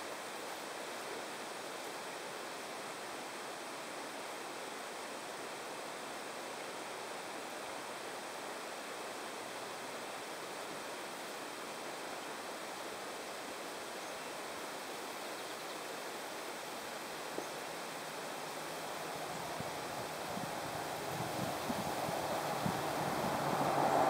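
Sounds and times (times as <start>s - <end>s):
outdoor ambient hiss: 0.0s - 24.0s.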